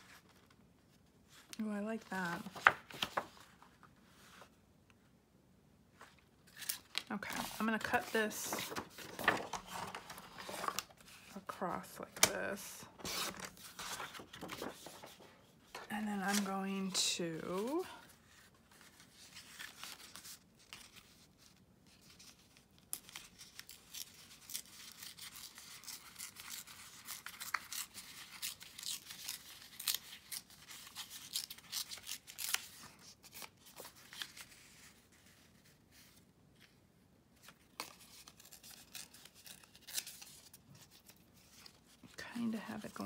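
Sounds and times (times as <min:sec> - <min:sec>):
paper rustling: 0:00.0 - 0:04.6, 0:05.9 - 0:36.8.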